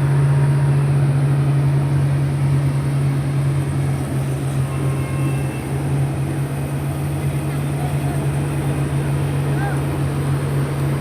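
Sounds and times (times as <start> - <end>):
road paver diesel engine drone: 0.0 - 11.0.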